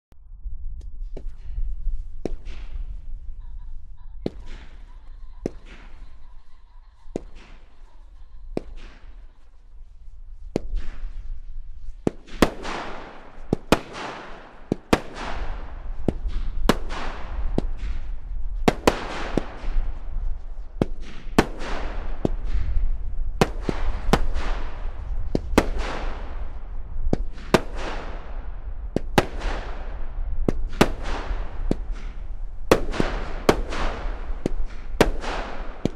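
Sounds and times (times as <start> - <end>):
fireworks cake shots: 2.2 - 35.9.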